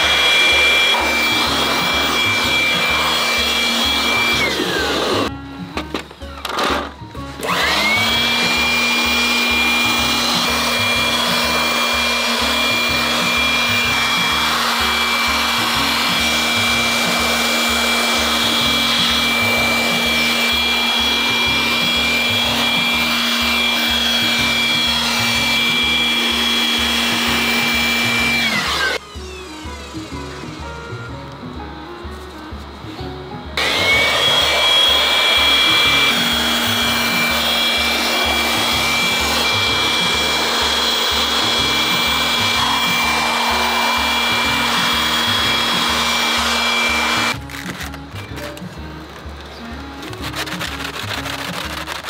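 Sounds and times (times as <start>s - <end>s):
electric blower whining: 0.0s - 52.0s.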